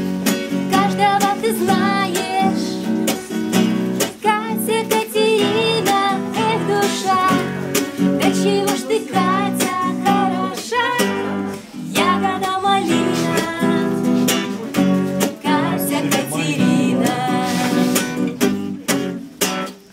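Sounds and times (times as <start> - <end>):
strummed acoustic guitar: 0.0 - 19.9
woman singing: 0.7 - 18.2.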